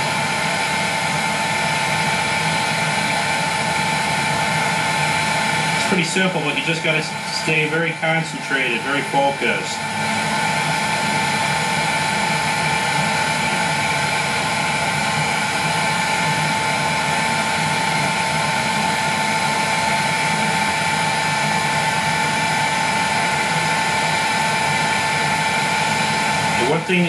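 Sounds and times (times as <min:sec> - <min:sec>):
heat gun whine and blown air: 0:00.0 - 0:27.0.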